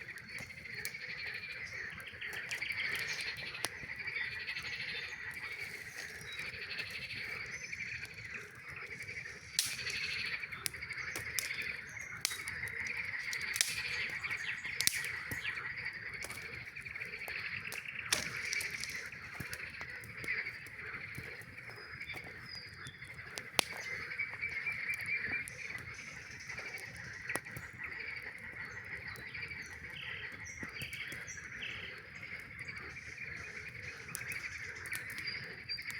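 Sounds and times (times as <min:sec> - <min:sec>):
campfire crackling: 0:00.0 - 0:35.9
frogs trilling: 0:00.0 - 0:35.9.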